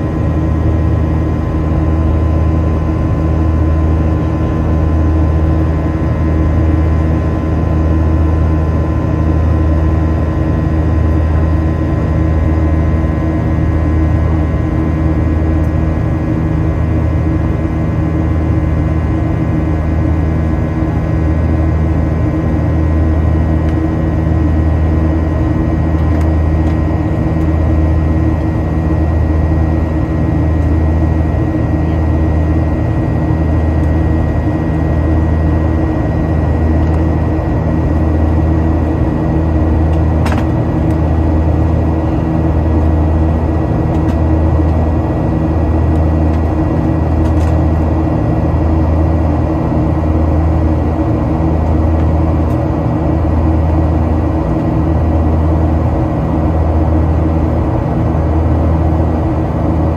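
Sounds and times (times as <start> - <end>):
jet engine drone in cabin: 0.0 - 59.9
thin steady whine: 0.0 - 59.9.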